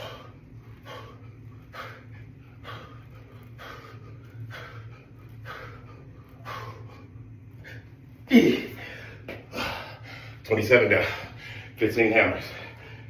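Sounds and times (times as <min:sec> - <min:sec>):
man breathing hard: 0:00.0 - 0:11.8, 0:12.4 - 0:13.0.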